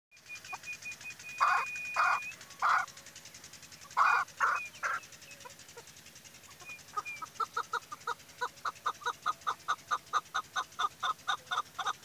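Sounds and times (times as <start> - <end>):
partridge harsh calls: 1.2 - 3.0, 3.8 - 12.0.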